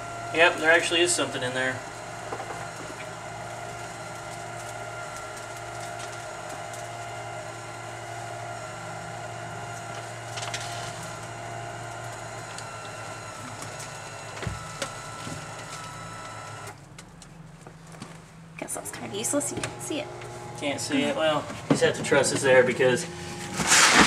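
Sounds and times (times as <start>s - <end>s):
drive motor running: 0.0s - 18.2s, 19.0s - 24.0s.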